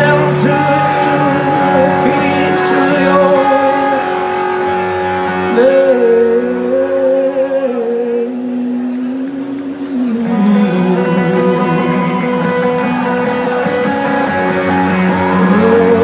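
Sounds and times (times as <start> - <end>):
man singing: 0.0 - 13.6, 15.0 - 16.0
electric guitar chords: 0.0 - 16.0
live rock band playing: 0.0 - 16.0.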